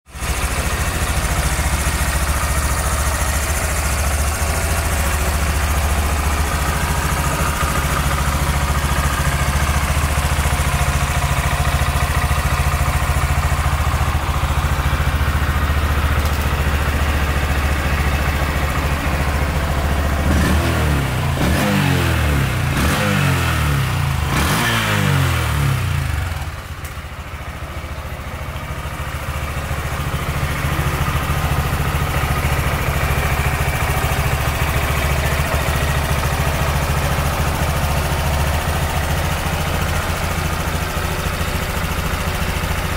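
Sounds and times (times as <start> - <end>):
motorcycle engine idling: 0.1 - 42.9
motorcycle engine revving: 0.2 - 42.9.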